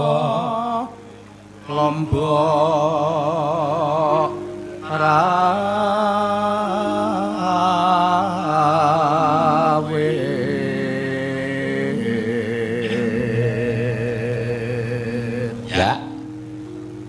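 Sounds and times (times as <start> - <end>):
instruments holding steady tones: 0.0 - 17.0
person singing with vibrato: 0.0 - 17.0.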